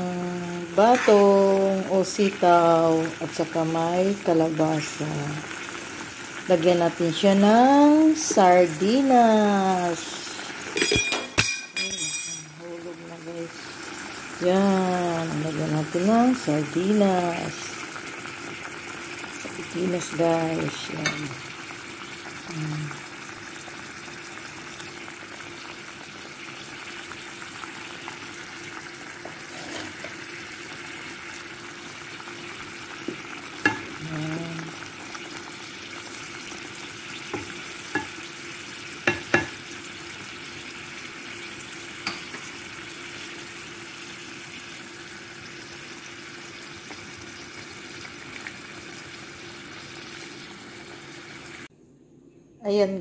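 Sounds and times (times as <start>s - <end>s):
stew bubbling and sizzling: 0.0s - 51.7s.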